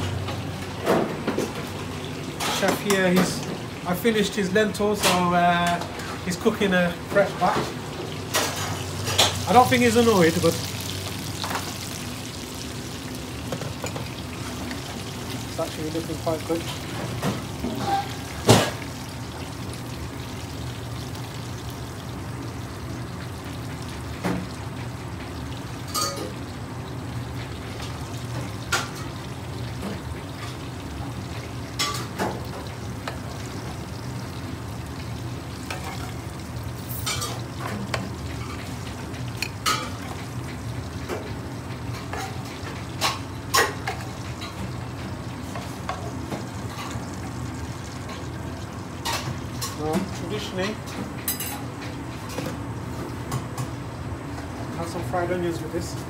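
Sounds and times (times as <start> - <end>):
frying sizzle: 0.0 - 56.0.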